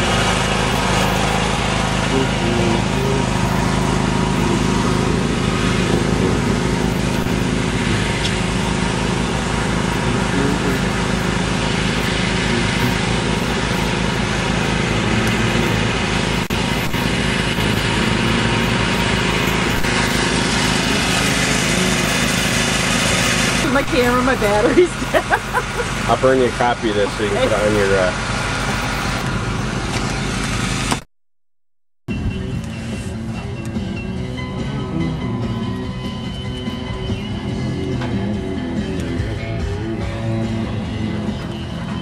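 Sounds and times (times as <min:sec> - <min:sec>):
small petrol engine running: 0:00.0 - 0:31.1, 0:32.1 - 0:42.0.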